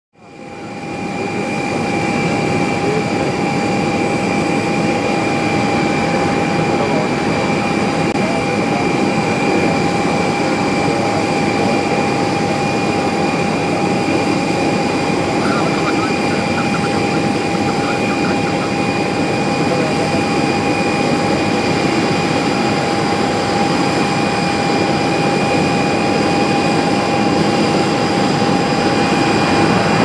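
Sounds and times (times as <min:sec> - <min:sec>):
high engine whine: 0:00.6 - 0:30.0
jet engines rushing: 0:00.7 - 0:30.0.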